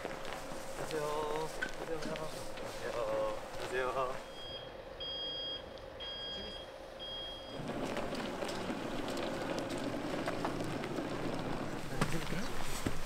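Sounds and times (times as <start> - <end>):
faint steady hum: 0.0 - 13.0
open-air ambience: 0.0 - 13.0.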